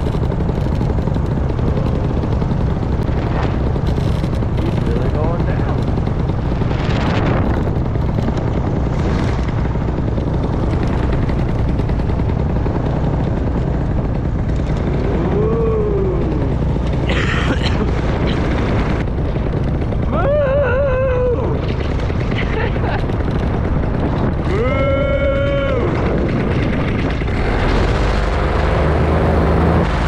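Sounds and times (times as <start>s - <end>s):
paramotor engine running: 0.0s - 30.0s
wind rush and buffeting: 0.0s - 30.0s.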